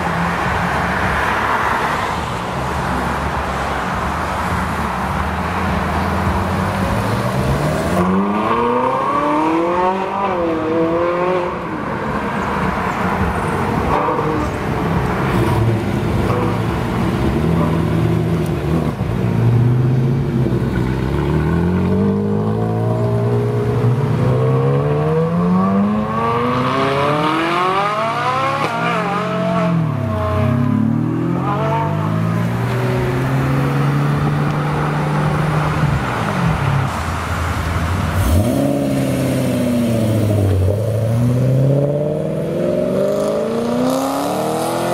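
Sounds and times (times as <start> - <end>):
sports car engines revving: 0.0 - 44.9.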